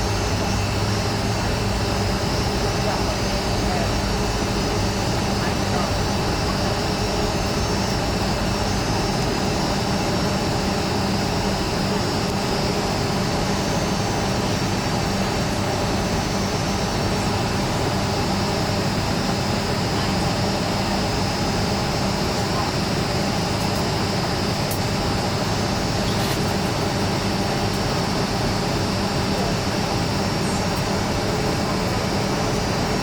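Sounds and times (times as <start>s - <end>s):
jet engines heard in cabin: 0.0s - 33.0s.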